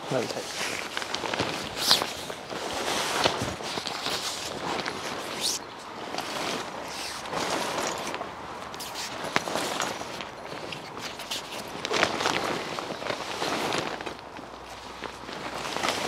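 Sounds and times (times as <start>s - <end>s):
tent fabric rustling and flapping: 0.0s - 16.0s.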